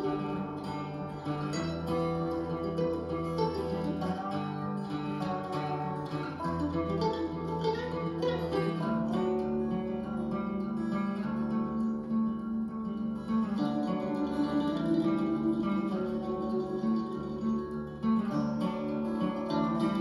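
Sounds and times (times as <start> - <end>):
instrumental guitar music: 0.0 - 20.0.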